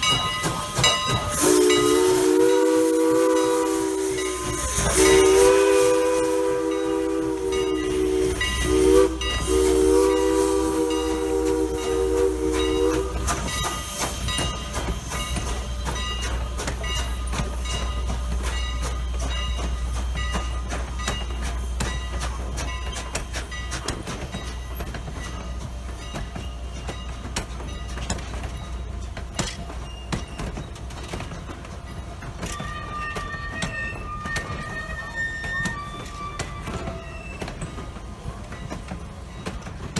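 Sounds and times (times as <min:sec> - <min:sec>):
steam locomotive chime whistle: 0:00.0 - 0:28.8, 0:32.4 - 0:39.6
wheels clanking over rails: 0:00.0 - 0:39.9.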